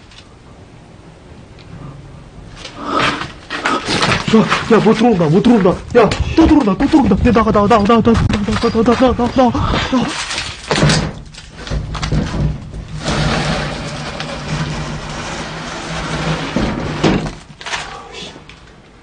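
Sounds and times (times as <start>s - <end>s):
faint low hum: 0.0s - 19.0s
rustling and handling noise: 2.5s - 19.0s.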